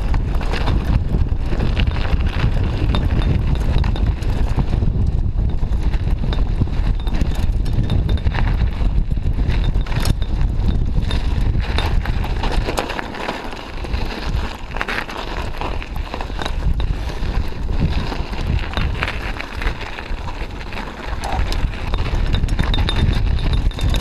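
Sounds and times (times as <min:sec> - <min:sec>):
bike rattling over bumps: 0:00.0 - 0:24.0
wind buffeting microphone: 0:00.0 - 0:24.0.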